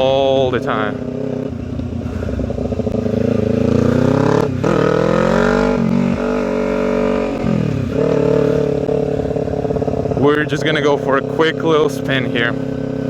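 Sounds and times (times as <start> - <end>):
loud motorcycle engine revving: 0.0 - 13.0.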